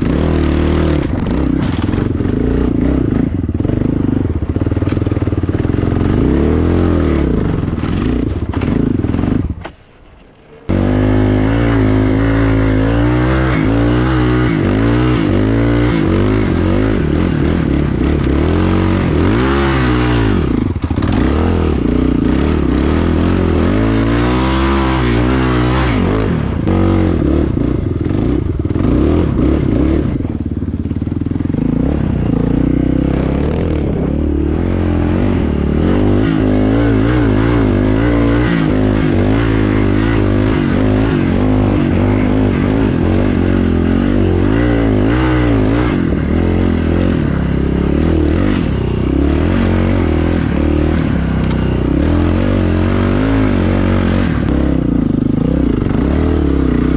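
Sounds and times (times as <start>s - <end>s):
quad engine revving: 0.0s - 9.6s, 10.7s - 56.9s.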